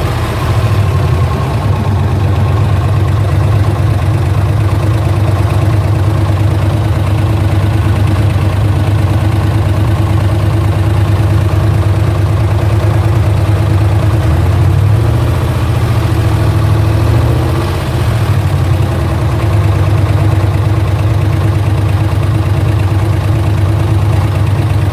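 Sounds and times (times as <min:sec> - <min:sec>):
car engine idling: 0:00.0 - 0:24.9
engine ticking: 0:00.0 - 0:24.9.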